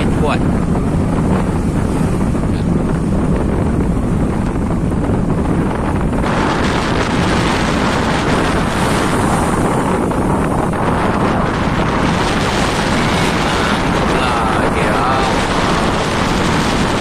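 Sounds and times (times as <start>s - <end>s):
rough sea rushing: 0.0s - 17.0s
wind buffeting microphone: 0.0s - 17.0s.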